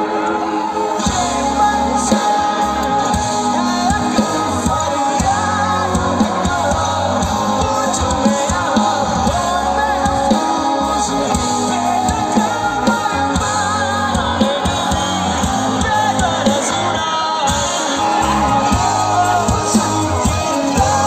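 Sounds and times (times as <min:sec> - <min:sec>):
live rock band: 0:00.0 - 0:21.0
person singing: 0:00.0 - 0:21.0
drum beat: 0:02.1 - 0:21.0.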